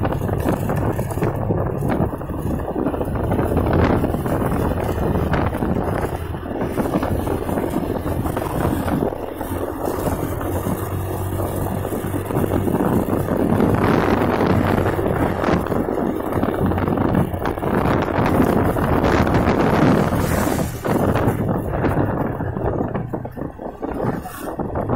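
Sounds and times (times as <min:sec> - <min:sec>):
low engine hum: 0:00.0 - 0:24.9
wind rushing over microphone: 0:00.0 - 0:24.9.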